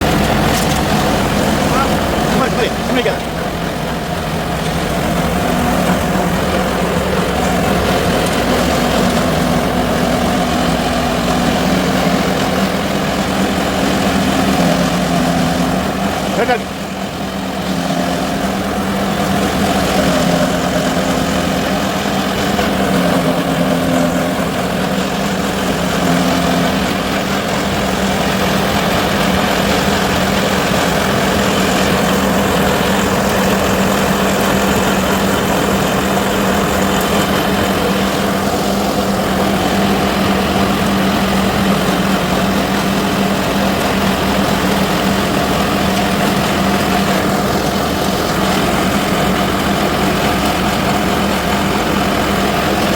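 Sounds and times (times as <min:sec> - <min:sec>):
harvester engine humming: 0:00.0 - 0:52.9
machinery noise: 0:00.0 - 0:52.9.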